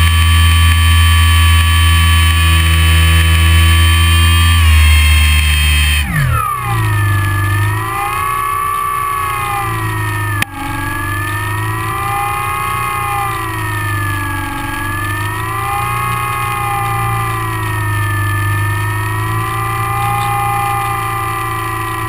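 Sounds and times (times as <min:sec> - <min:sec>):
model plane motor whining: 0:00.0 - 0:22.0
steady low hum: 0:00.0 - 0:22.0.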